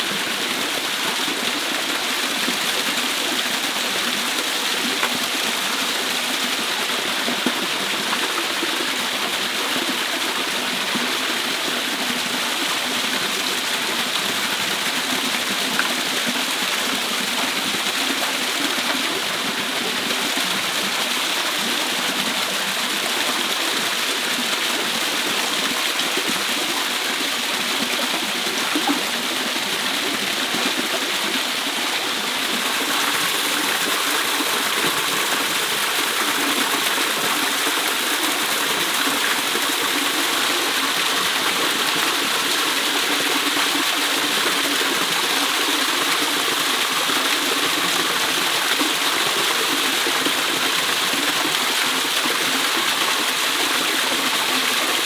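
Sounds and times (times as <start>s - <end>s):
waterfall pouring into pool: 0.0s - 55.0s.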